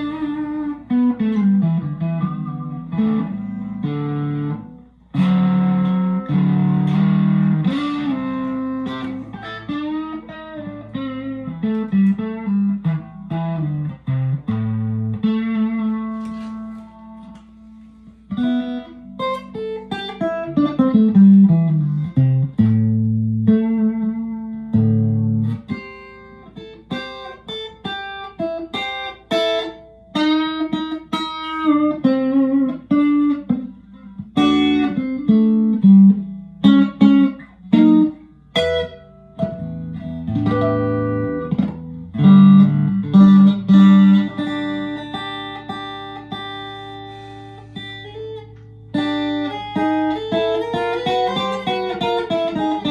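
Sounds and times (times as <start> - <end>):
clean electric guitar playing: 0.0 - 52.9.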